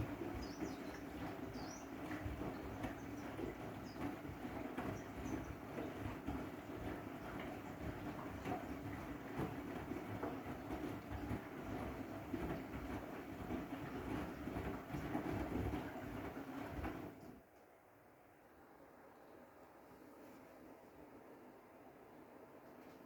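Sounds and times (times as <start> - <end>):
washing machine rumbling: 0.0 - 23.0.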